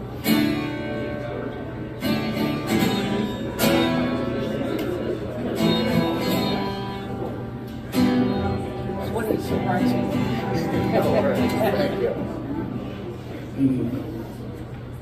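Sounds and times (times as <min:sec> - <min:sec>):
acoustic guitar strumming: 0:00.0 - 0:13.2.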